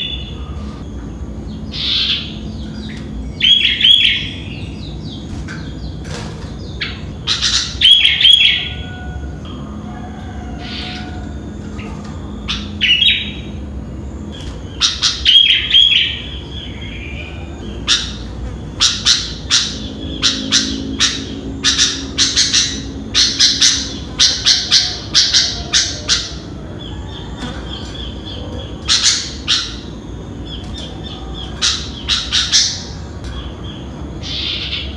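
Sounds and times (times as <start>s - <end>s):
bird calling with sharp chirps: 0.0s - 34.9s.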